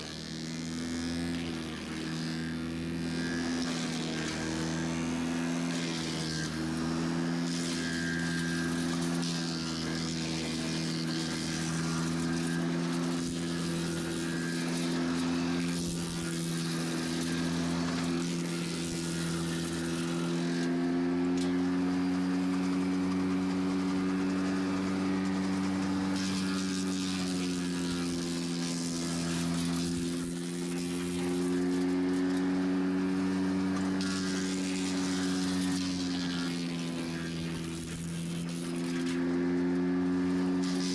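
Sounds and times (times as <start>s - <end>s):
wood chipper engine running: 0.0s - 40.9s.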